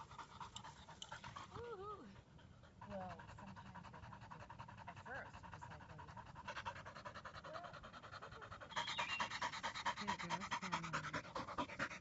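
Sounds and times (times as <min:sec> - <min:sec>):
dog panting rapidly: 0:00.0 - 0:12.0.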